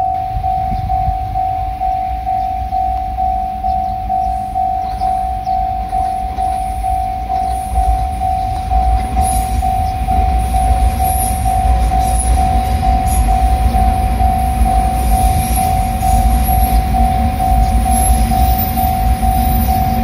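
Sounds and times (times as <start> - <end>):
level-crossing alarm dinging: 0.0 - 20.0
train rumble: 0.0 - 20.0
wheels hissing and whining on rails: 0.0 - 20.0.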